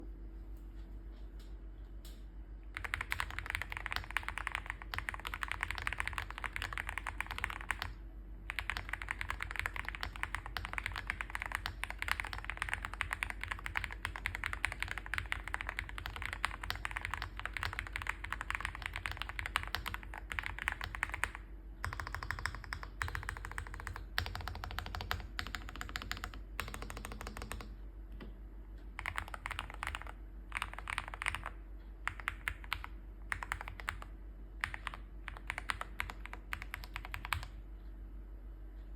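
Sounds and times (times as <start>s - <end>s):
fast typing on mechanical keyboard: 2.8s - 27.8s, 29.0s - 37.6s.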